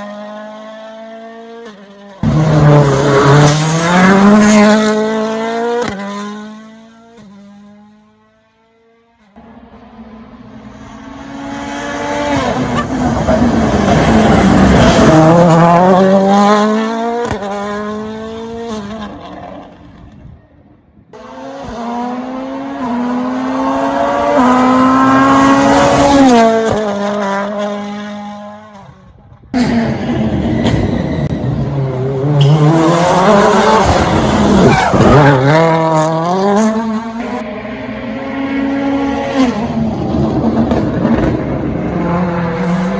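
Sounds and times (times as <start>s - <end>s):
rally car engine passing at speed: 0.0s - 20.2s, 21.2s - 42.9s.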